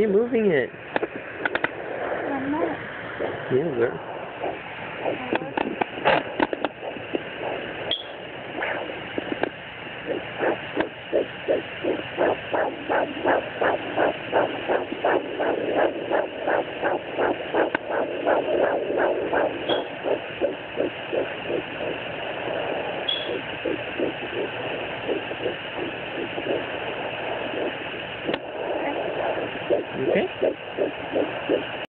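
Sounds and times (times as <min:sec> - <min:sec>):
fetal heartbeat whooshing pulses: 0:00.0 - 0:31.9.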